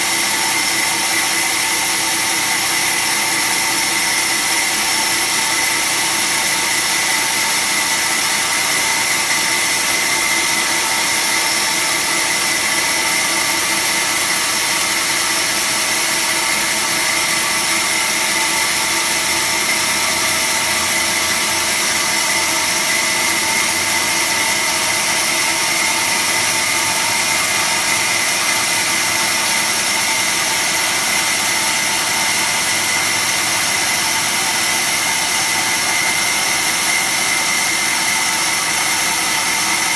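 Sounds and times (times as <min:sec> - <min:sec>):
band saw running: 0:00.0 - 0:39.9
high steady machine whine: 0:00.0 - 0:39.9.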